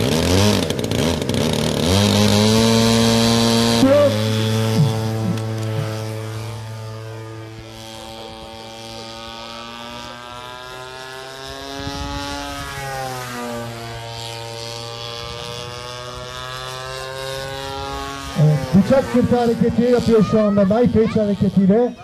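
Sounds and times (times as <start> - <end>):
model aeroplane engine buzzing: 0.0 - 22.0.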